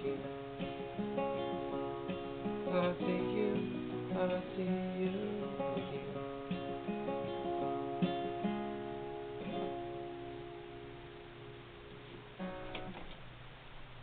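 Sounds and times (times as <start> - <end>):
acoustic guitar strummed chords: 0.0 - 13.2.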